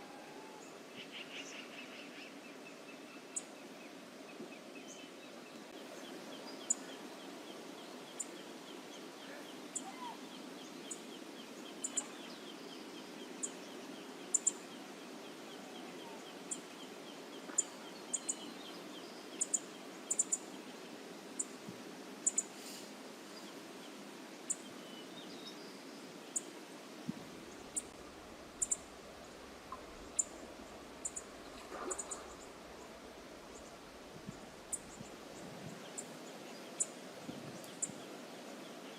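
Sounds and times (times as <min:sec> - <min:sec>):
low rushing background haze: 0:00.0 - 0:38.9.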